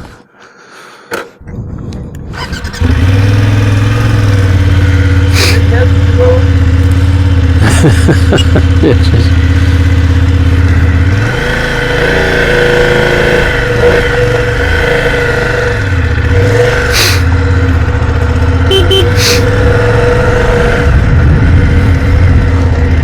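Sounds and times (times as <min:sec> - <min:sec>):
motorcycle engine running: 0:02.2 - 0:23.0.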